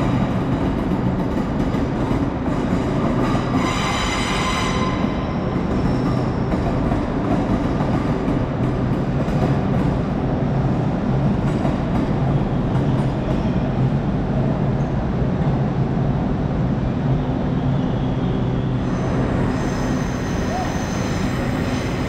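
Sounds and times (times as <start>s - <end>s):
low hum of train traction: 0.0s - 22.0s
train pulling out rumbling: 0.0s - 22.0s.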